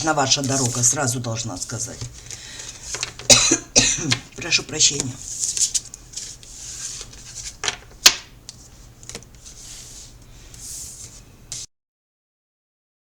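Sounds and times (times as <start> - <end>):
cards shuffling: 0.0 - 3.3, 4.1 - 11.7.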